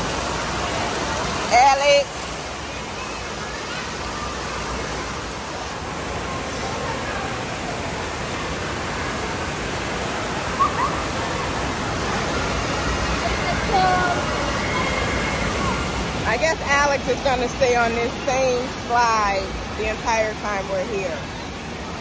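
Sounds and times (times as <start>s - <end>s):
faint voices: 0.0s - 22.0s
running water rushing: 0.0s - 22.0s.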